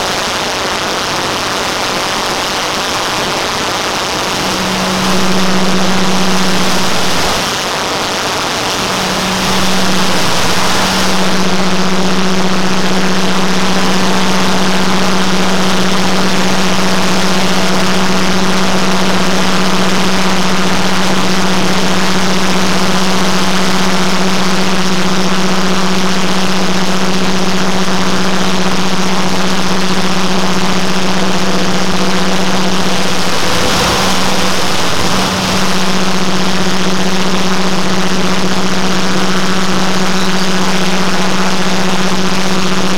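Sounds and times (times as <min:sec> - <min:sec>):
dense jet engine drone: 0:03.0 - 0:24.0, 0:28.9 - 0:42.9.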